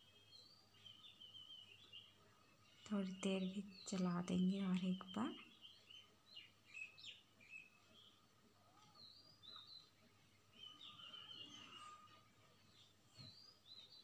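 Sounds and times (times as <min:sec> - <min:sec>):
faint small birds chirping: 0:00.0 - 0:14.0.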